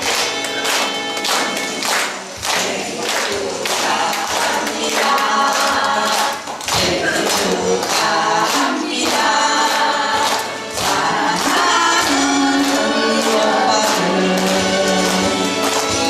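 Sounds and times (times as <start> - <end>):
group of voices singing: 0.0 - 16.0
percussion beat: 0.0 - 16.0.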